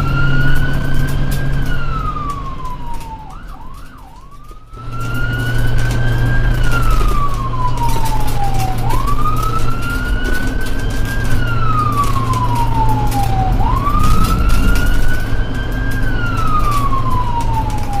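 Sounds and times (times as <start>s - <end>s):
ambulance siren wailing: 0.0s - 18.0s
steady low rumble: 0.0s - 18.0s.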